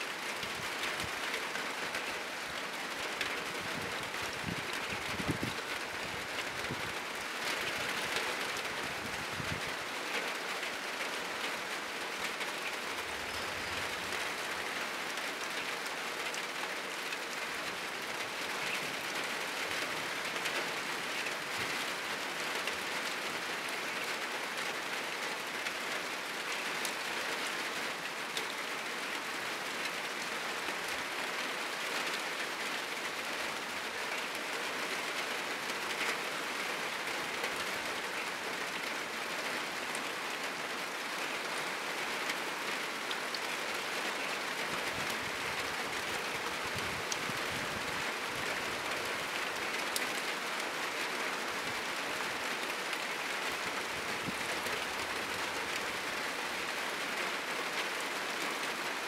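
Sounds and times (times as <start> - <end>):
heavy rain on a roof: 0.0 - 59.0.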